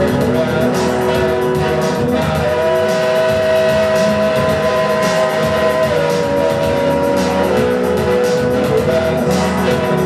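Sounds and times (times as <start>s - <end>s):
live rock band music: 0.0s - 10.0s.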